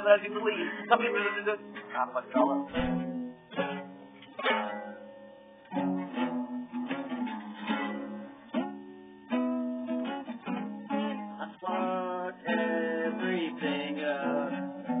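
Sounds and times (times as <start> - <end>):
electric guitar chords and notes: 0.0 - 15.0.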